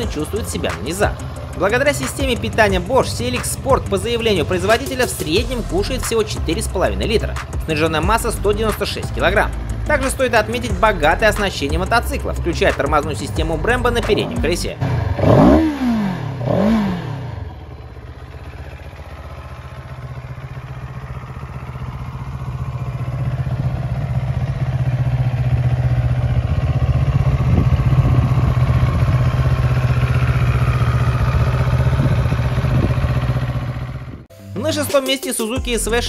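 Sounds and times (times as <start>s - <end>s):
motorcycle engine revving and idling: 0.0s - 34.3s.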